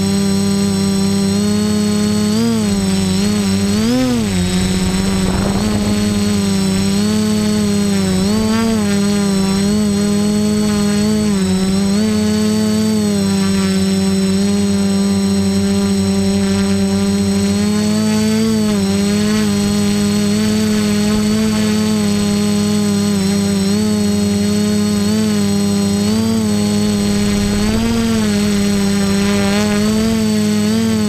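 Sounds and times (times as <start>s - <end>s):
quadcopter propellers humming: 0.0s - 31.0s.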